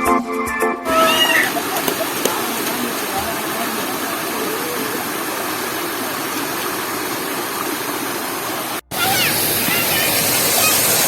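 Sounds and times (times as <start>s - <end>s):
waterfall rushing: 0.9s - 11.0s.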